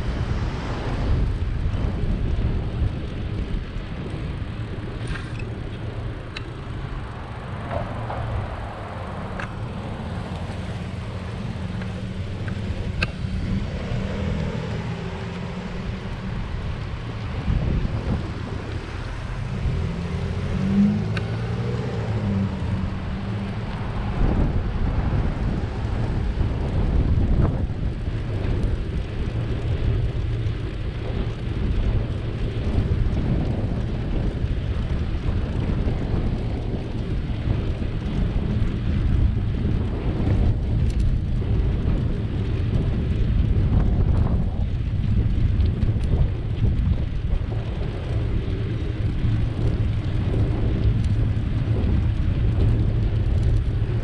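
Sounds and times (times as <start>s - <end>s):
road noise from bicycle: 0.0s - 54.0s
wind buffeting microphone: 0.0s - 54.0s.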